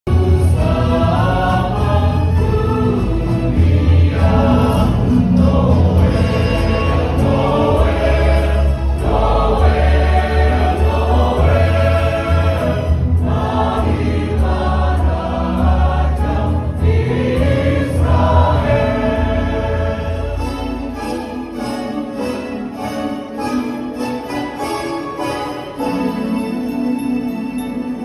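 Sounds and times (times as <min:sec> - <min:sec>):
choir singing: 0:00.1 - 0:28.0.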